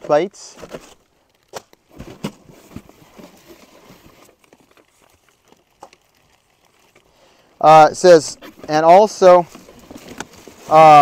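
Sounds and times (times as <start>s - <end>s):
packaging rustling: 0.1s - 11.0s.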